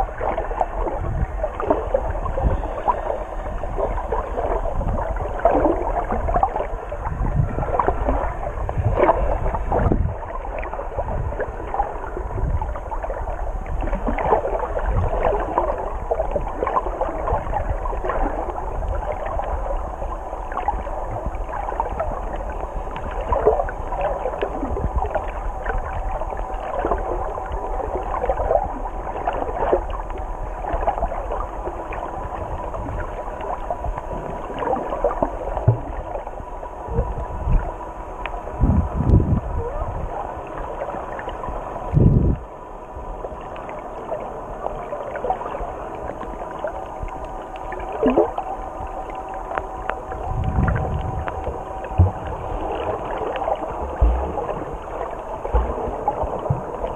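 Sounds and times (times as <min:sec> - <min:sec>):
low underwater rumble: 0:00.0 - 0:56.9
small underwater clicks and crackles: 0:00.0 - 0:56.9
water gurgling underwater: 0:00.0 - 0:56.9.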